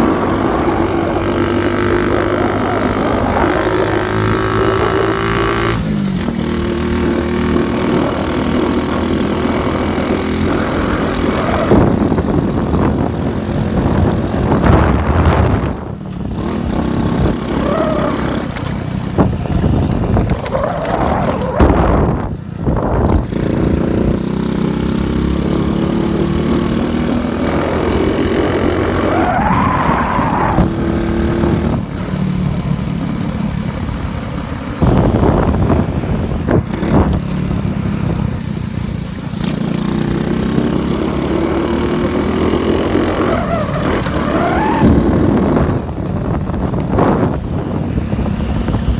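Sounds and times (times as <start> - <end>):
motorcycle engine revving: 0.0 - 34.0, 36.5 - 48.8
wind noise: 0.0 - 48.9.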